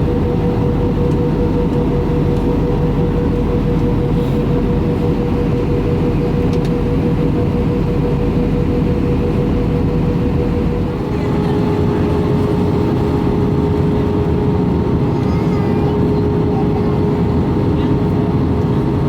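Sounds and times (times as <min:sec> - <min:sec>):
jet engine cabin hum: 0:00.0 - 0:19.0.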